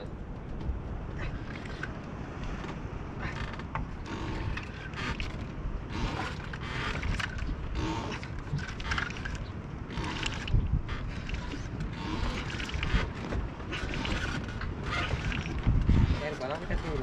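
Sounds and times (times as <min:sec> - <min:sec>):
steady low rumble: 0:00.0 - 0:17.0
fishing reel whirring and creaking: 0:01.4 - 0:17.0.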